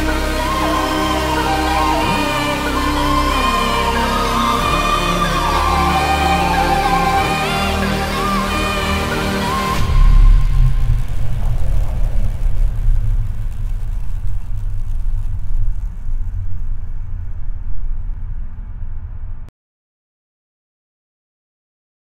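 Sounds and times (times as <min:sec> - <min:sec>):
deep low rumble: 0:00.0 - 0:19.5.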